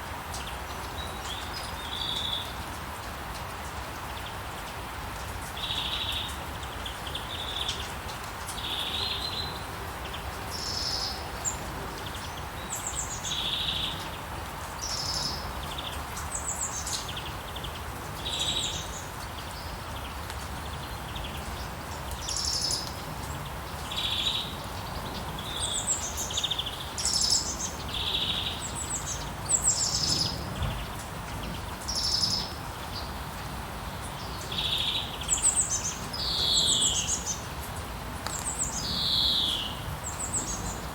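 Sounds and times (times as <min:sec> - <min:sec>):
rain hissing: 0:00.1 - 0:40.9
songbirds chirping: 0:00.1 - 0:40.9.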